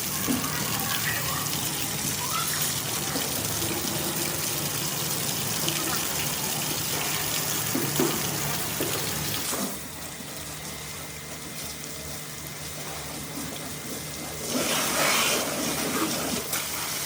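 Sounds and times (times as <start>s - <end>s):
water spraying onto a car: 0.0s - 10.2s, 10.9s - 17.0s.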